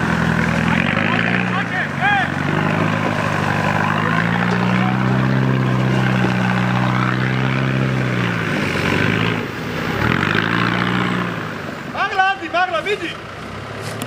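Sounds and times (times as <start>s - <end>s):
diesel engine at high revs: 0.0s - 14.0s.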